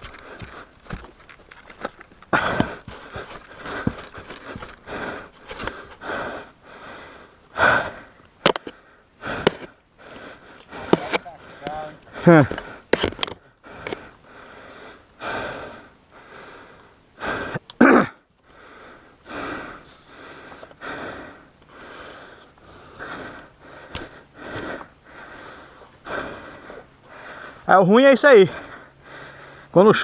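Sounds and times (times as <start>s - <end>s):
person panting: 2.3s - 13.0s, 13.6s - 17.6s, 18.5s - 27.7s, 28.4s - 29.8s.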